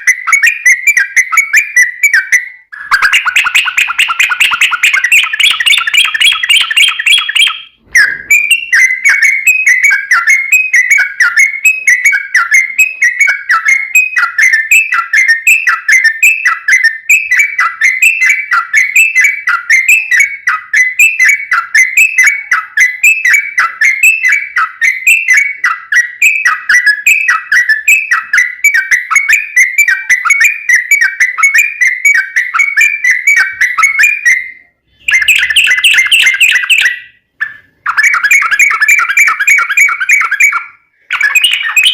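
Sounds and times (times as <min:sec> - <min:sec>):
bulbul singing whistled notes: 0:00.0 - 0:41.9.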